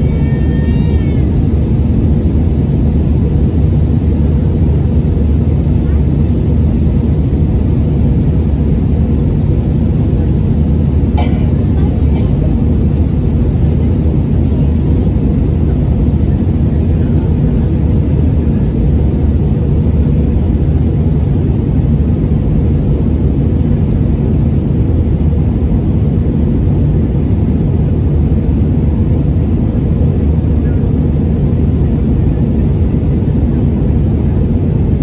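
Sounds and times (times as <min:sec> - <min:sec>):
aircraft cabin engine rumble: 0:00.0 - 0:35.0.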